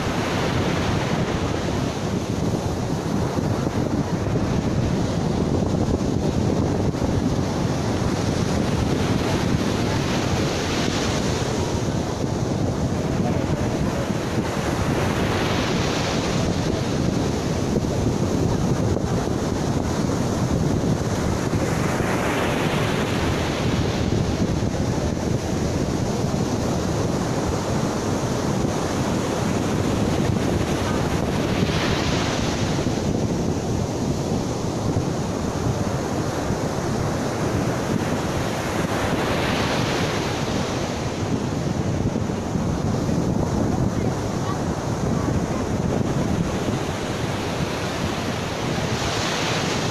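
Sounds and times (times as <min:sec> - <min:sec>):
ocean surf breaking: 0:00.0 - 0:49.9
wind rumble on microphone: 0:00.0 - 0:49.9.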